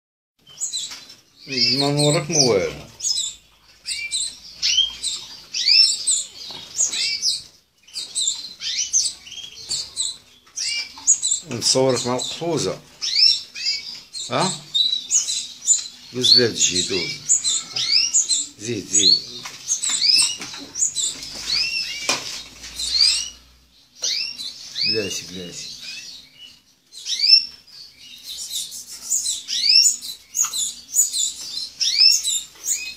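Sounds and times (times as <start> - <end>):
canary chirping: 0.4 - 32.9.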